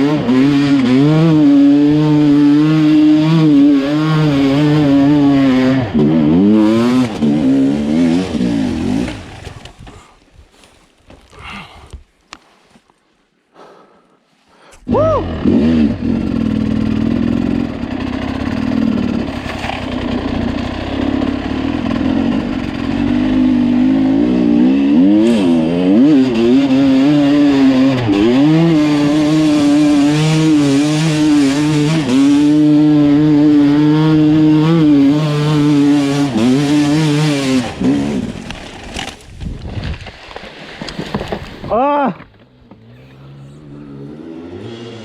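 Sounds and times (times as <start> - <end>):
dirt bike engine revving: 0.0 - 9.7, 14.9 - 39.1, 42.5 - 45.0.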